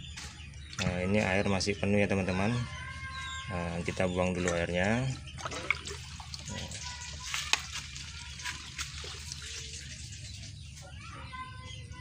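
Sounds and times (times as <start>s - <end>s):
water splashing and trickling: 0.4s - 12.0s.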